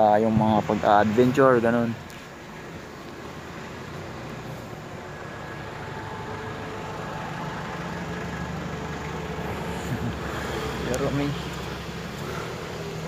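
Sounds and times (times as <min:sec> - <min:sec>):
vehicle engine running: 0:02.5 - 0:13.0.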